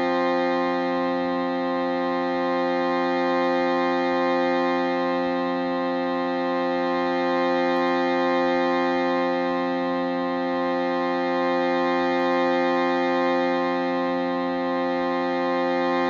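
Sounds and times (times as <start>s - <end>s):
shruti box drone: 0.0s - 16.0s.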